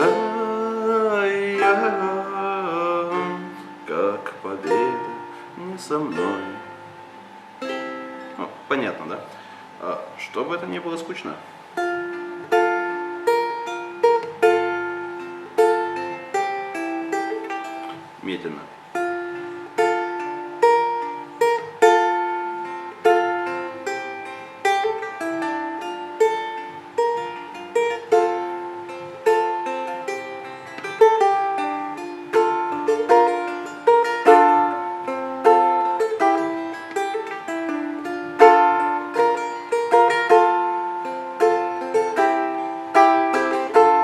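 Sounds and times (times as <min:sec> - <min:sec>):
balalaika fingerpicking: 0:00.0 - 0:44.0.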